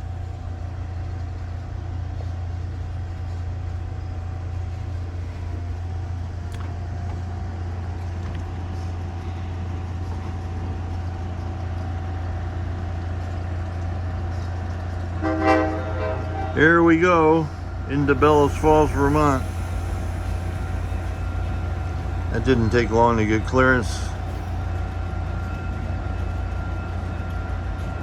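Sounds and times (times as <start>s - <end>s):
railcar hum and rumble: 0.0s - 28.0s.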